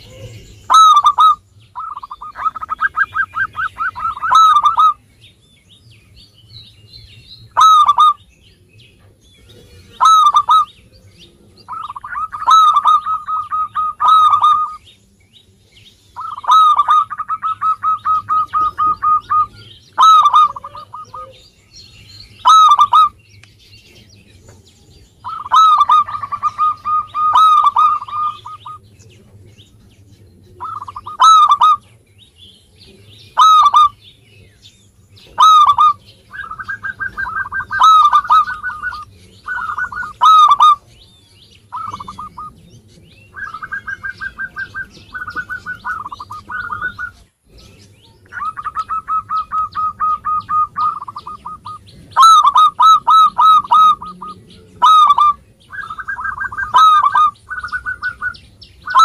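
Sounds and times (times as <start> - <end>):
dove cooing: 0.0 - 5.1, 7.4 - 8.2, 9.0 - 14.9, 16.2 - 23.2, 23.8 - 32.0, 32.8 - 34.5, 35.1 - 59.0.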